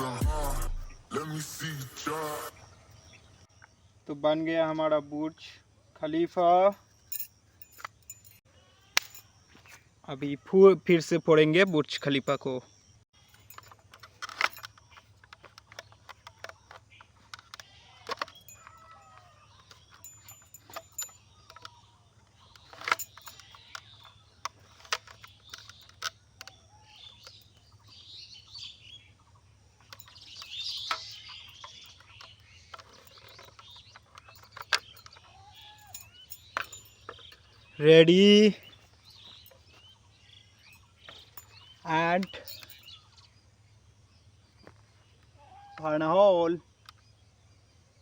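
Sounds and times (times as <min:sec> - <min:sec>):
birds chirping: 0:00.0 - 0:48.0.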